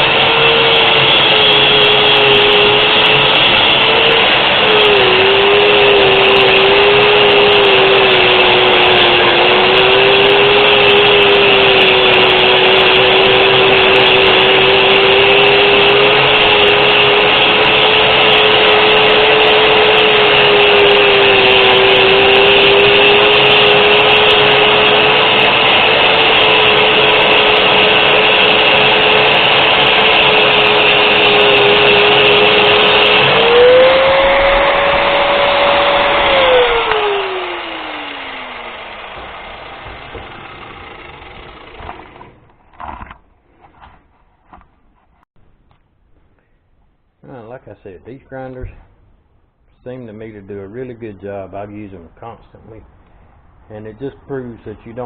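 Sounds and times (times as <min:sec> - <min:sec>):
angle grinder grinding: 0:00.0 - 0:44.7.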